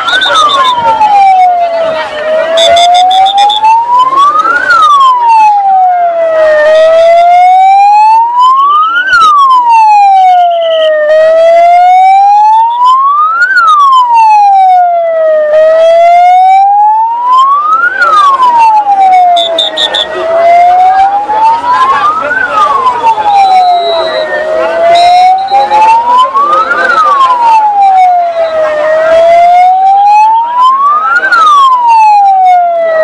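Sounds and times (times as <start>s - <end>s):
siren wailing: 0.0s - 33.0s.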